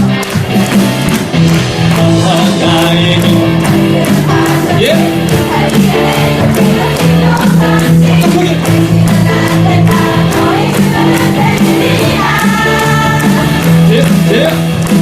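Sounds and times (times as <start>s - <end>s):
band with steady beat: 0.0s - 15.0s
singers performing: 0.0s - 15.0s.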